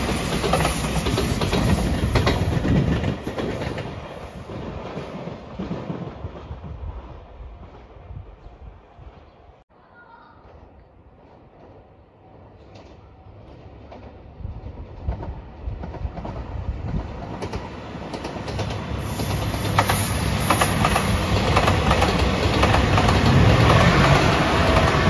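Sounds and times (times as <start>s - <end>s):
diesel train passing: 0.0s - 9.6s, 10.4s - 25.0s.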